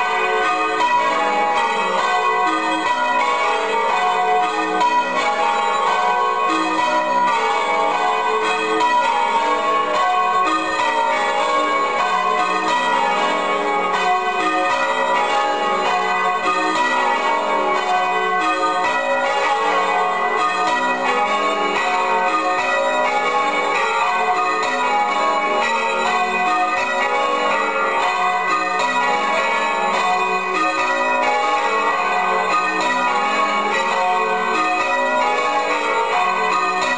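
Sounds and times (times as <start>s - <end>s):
church bells ringing: 0.0s - 36.9s.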